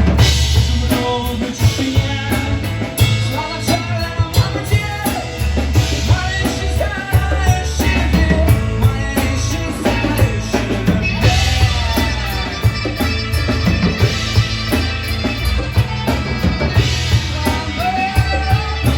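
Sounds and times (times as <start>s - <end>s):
drum kit beat: 0.0s - 18.9s
heavy bass: 0.0s - 18.9s
melodic lead line: 0.0s - 18.9s
rock band playing live: 0.0s - 18.9s.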